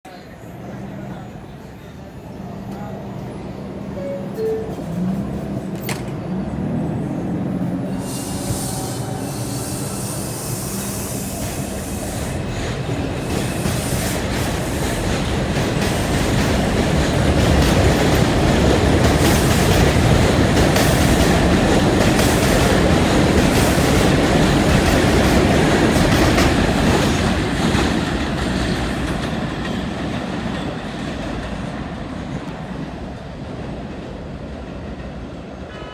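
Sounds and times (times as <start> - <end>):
subway train running on track: 0.0 - 35.9.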